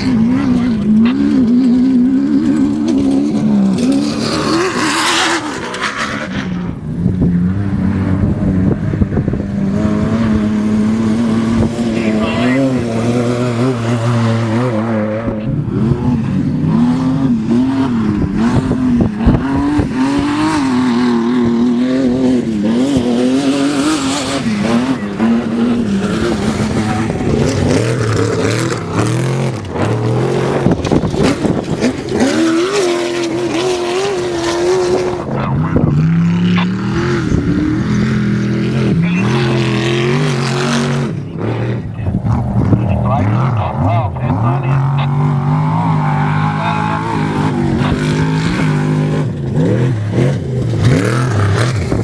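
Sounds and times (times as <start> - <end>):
race vehicle engine revving: 0.0 - 52.0.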